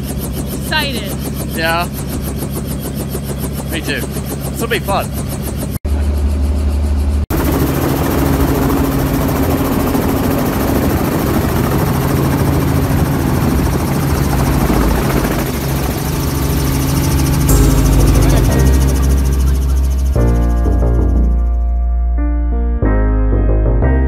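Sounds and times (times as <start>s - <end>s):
helicopter rotor and engine: 0.0s - 21.5s.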